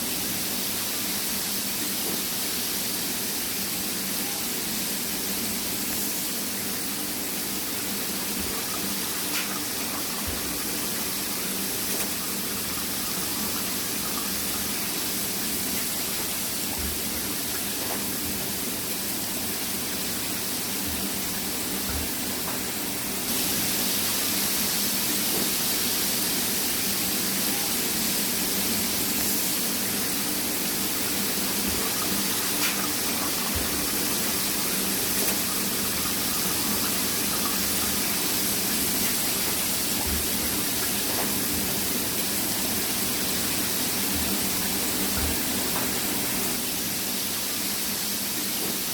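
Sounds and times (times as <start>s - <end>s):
fryer line rushing hiss: 0.0s - 48.9s.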